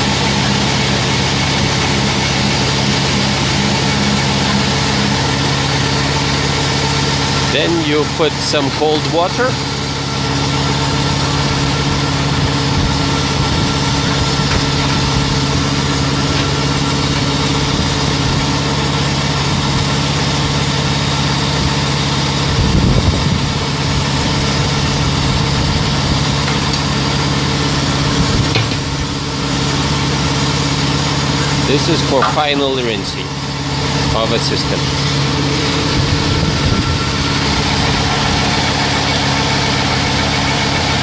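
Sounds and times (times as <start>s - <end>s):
vacuum pump running: 0.0s - 41.0s.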